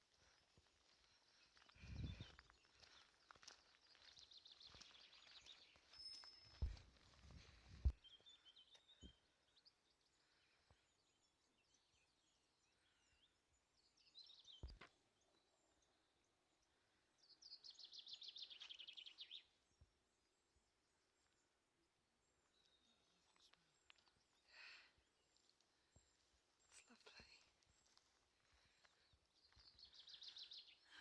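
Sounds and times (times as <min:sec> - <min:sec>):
small songbirds calling faintly: 0:00.0 - 0:31.0.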